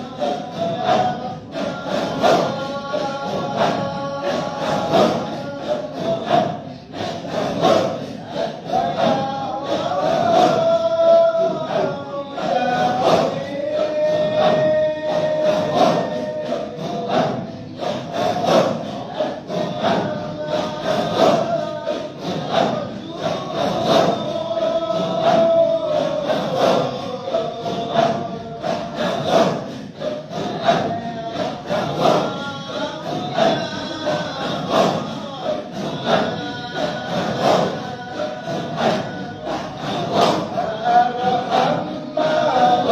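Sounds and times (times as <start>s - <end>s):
group of voices chanting: 0.0s - 42.9s
steady beat: 0.0s - 42.9s.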